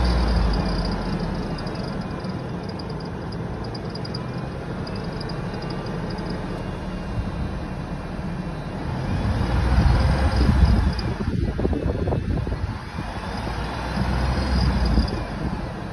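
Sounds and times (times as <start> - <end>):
high-pitched pulsing squeal: 0.0 - 7.8, 8.6 - 15.9
truck engine running: 0.0 - 15.9.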